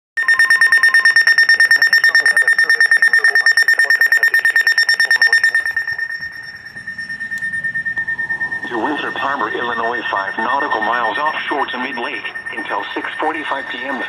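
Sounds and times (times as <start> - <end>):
rapid high-pitched electronic beeps: 0.2 - 14.0.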